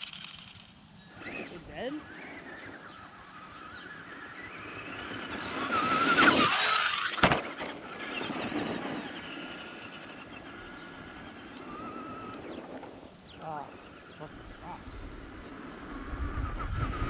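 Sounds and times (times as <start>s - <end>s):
rc truck motor whine: 0.0s - 17.0s.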